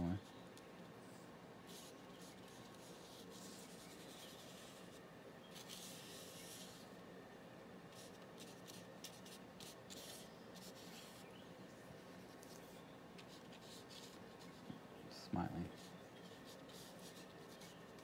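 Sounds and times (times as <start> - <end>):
paintbrush brushing on paper: 1.6 - 6.9, 7.9 - 14.7, 15.6 - 18.0.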